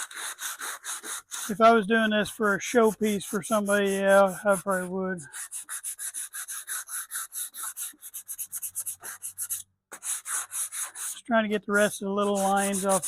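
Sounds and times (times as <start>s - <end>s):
sandpaper rubbing on wood: 0.0s - 13.0s.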